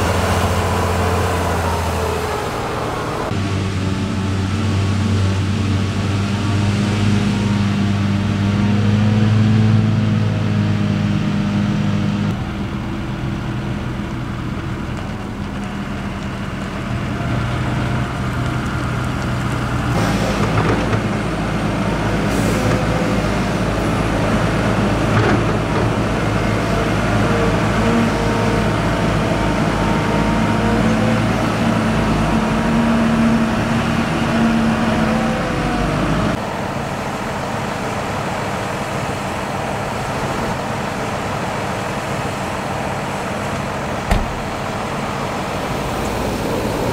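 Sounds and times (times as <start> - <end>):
diesel machinery engines running: 0.0 - 46.9.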